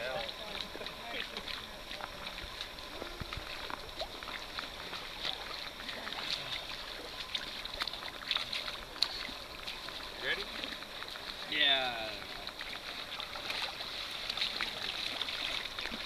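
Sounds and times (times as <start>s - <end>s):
river water splashing around legs: 0.0s - 16.0s
small splashes and drips: 0.0s - 16.0s.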